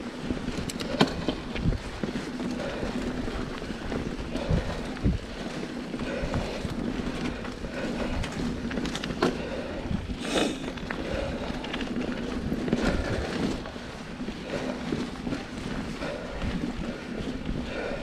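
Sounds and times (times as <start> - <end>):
bike clatter: 0.0 - 18.0
bike knocks and rattles: 0.0 - 18.0
bike tyres on dirt trail: 0.0 - 18.0.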